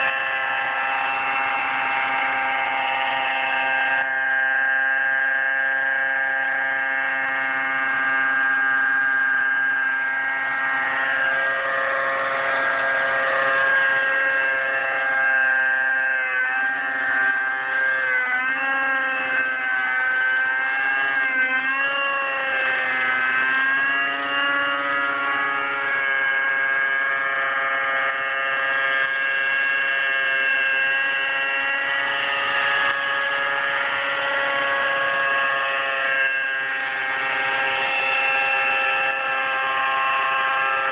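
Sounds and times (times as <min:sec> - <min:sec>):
rc helicopter whine: 0:00.0 - 0:40.9.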